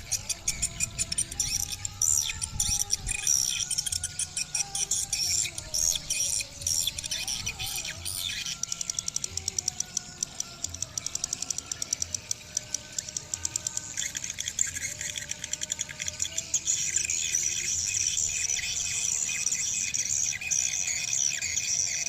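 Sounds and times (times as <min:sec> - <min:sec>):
swiftlets clicking and chirping: 0:00.0 - 0:22.0.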